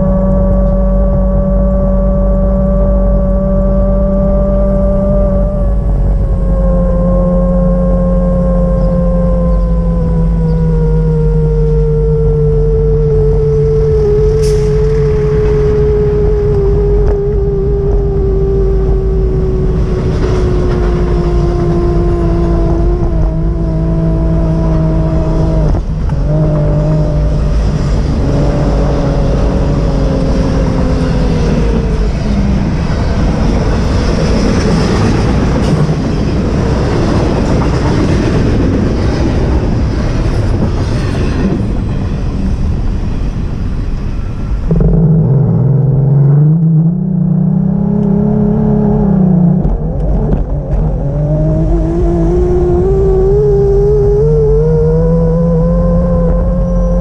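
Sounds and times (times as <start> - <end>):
vehicle engine rumbling: 0.0 - 57.0.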